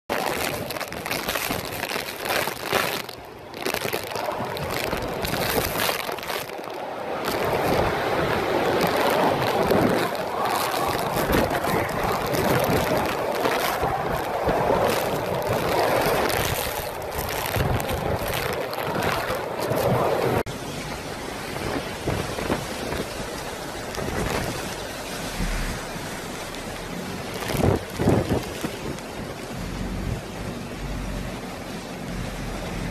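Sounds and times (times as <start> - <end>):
heavy driving rain: 0.1 - 32.9
strong wind gusting: 3.2 - 31.3.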